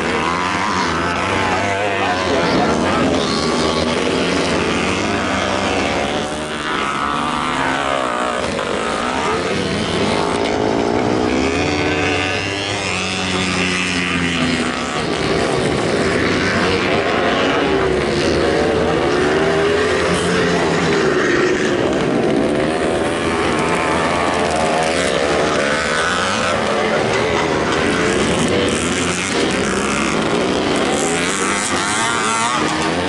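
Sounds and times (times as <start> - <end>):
motocross bike engines revving: 0.0 - 33.0.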